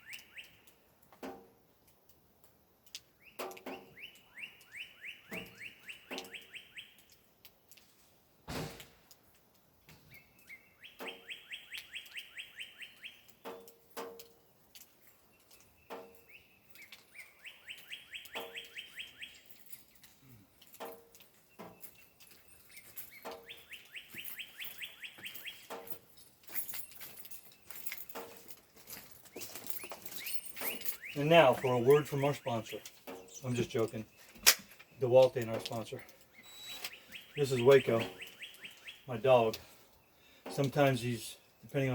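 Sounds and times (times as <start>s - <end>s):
songbird singing: 0.0s - 2.2s, 2.8s - 8.0s, 9.3s - 41.9s.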